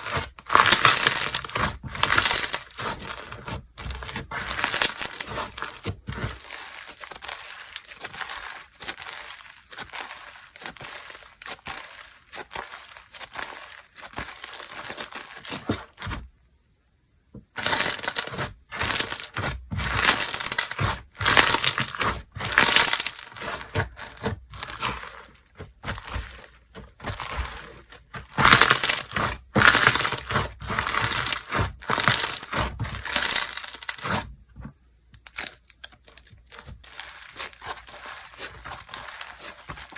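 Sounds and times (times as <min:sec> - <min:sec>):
hands squishing slime: 0:00.0 - 0:16.2, 0:20.6 - 0:33.2, 0:35.3 - 0:39.9.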